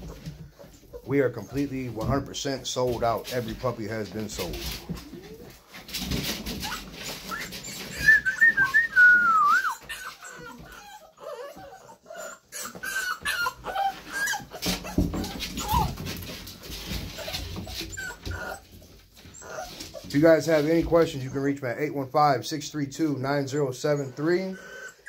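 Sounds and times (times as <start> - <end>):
puppies whining: 0.0 - 3.1, 3.9 - 22.1, 23.0 - 25.0
puppies scratching and rustling: 0.0 - 25.0.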